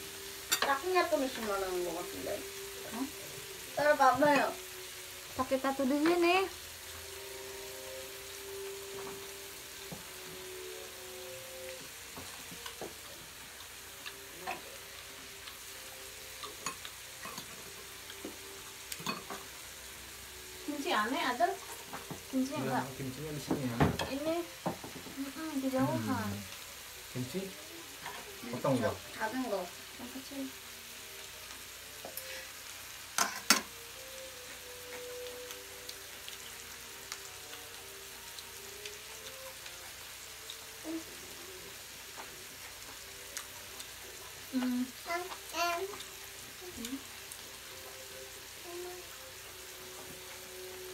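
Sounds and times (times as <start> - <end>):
meat sizzling on grill pan: 0.0 - 50.9.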